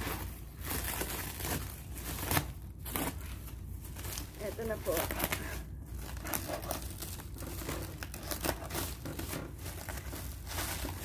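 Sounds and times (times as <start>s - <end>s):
packaging crinkling: 0.0s - 11.0s
packaging tearing: 0.0s - 11.0s.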